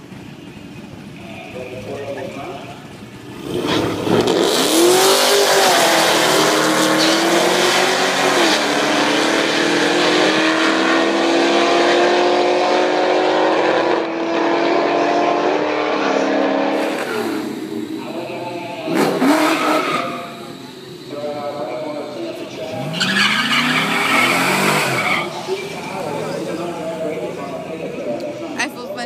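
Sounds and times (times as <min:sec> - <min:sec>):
car engine accelerating: 0:00.0 - 0:28.6.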